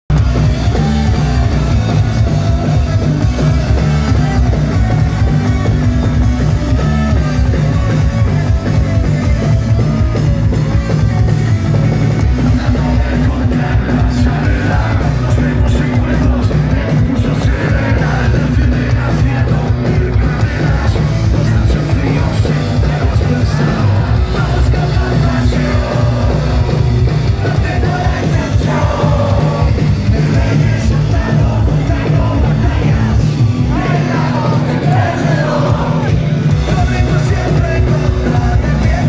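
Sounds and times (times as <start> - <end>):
bass guitar: 0.0 - 39.0
distorted electric guitars: 0.0 - 39.0
drums: 0.0 - 39.0
lead vocals: 0.1 - 39.0.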